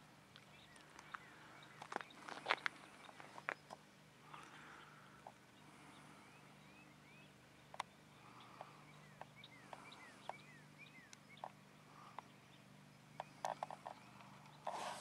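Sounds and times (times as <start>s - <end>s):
steady low hum: 0.0s - 15.0s
faint bird chirps: 0.4s - 15.0s.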